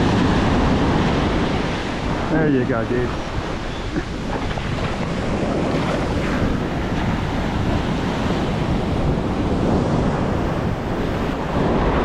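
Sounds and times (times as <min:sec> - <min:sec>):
ocean surf washing onto beach: 0:00.0 - 0:12.0
wind buffeting microphone: 0:00.0 - 0:12.0.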